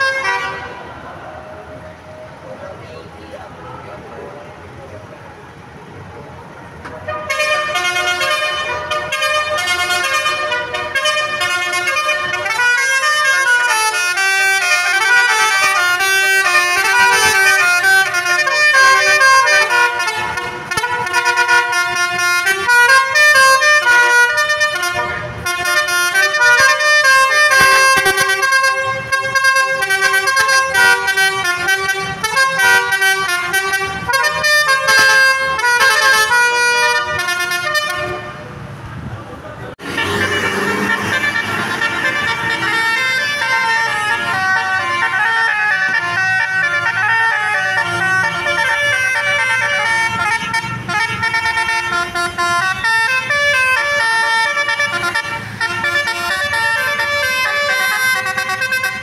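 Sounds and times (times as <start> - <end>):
multi-tone air horn melody: 0.0 - 1.0, 7.0 - 38.6, 39.8 - 59.0.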